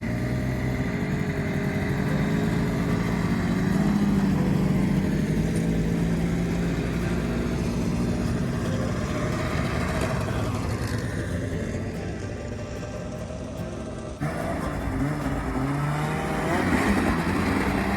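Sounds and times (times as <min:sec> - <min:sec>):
snowmobile engine running: 0:00.0 - 0:17.9.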